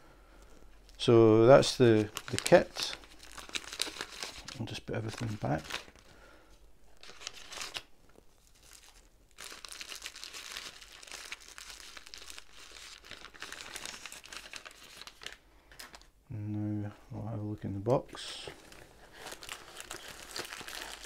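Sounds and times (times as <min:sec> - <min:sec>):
plastic bags crinkling: 0:01.0 - 0:06.1, 0:06.9 - 0:16.1, 0:18.4 - 0:21.0.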